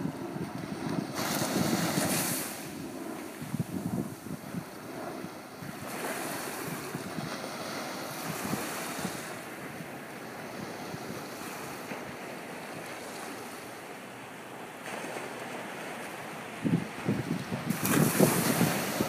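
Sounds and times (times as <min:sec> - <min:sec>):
small surf washing up sand: 0:00.0 - 0:19.0.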